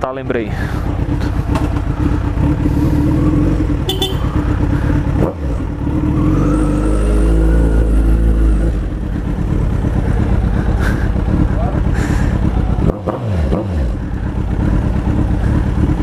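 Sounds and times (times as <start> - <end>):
loud motorcycle engine revving: 0.5 - 16.0.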